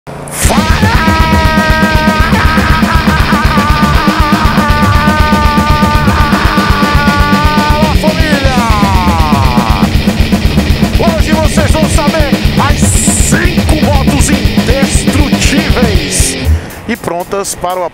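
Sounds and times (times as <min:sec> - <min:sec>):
electric guitar: 0:00.3 - 0:16.7
fast pounding drum beat: 0:00.4 - 0:17.1.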